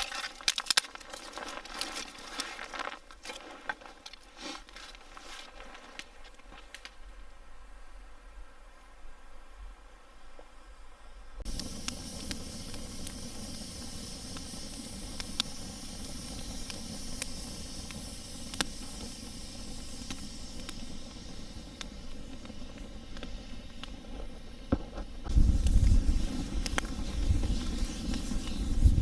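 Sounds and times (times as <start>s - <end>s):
campfire crackling and popping: 0.0s - 7.2s, 11.4s - 29.0s.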